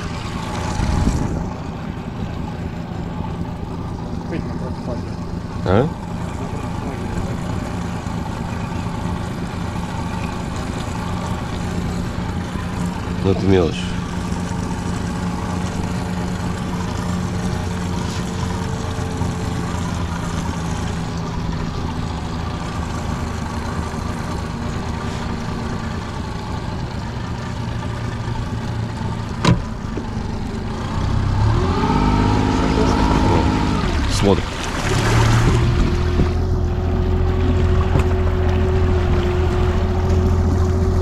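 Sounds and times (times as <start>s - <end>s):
outboard engine running: 0.0s - 41.0s.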